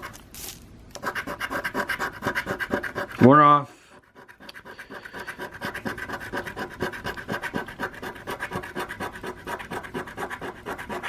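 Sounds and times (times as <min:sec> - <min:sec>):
scratch card being scraped: 0:01.0 - 0:03.3, 0:03.9 - 0:11.0.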